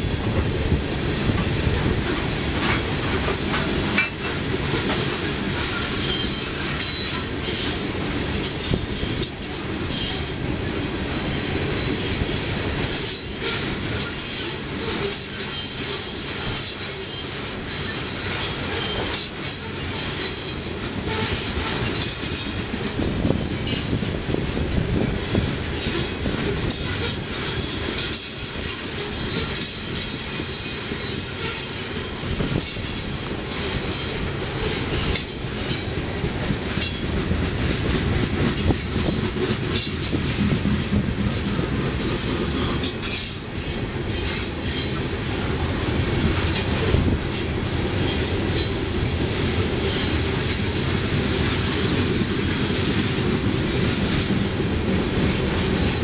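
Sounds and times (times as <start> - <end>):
steel wheels rumbling on rail: 0.0 - 56.0
wheels clicking over rail joints: 0.2 - 45.4.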